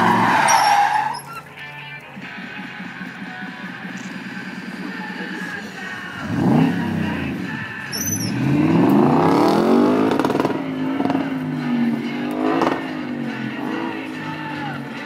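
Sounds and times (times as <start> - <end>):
race car engine revving: 0.0 - 1.2, 3.9 - 15.0.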